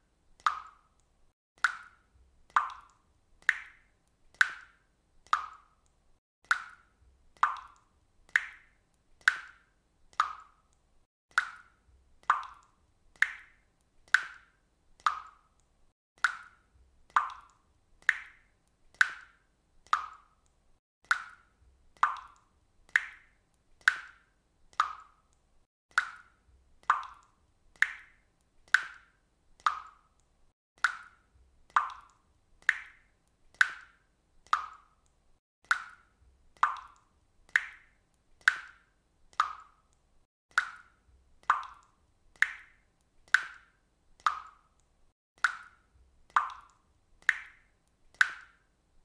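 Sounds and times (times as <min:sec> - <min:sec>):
faucet dripping: 0:00.4 - 0:48.6.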